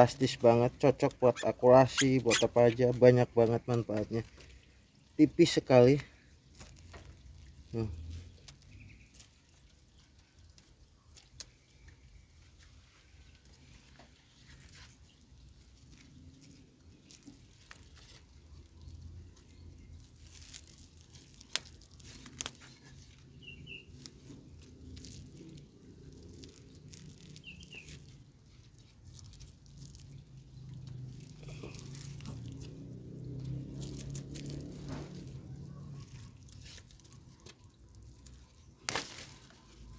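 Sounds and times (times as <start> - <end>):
plastic crackles: 0.1 - 39.9
plastic film crinkling: 1.0 - 39.9.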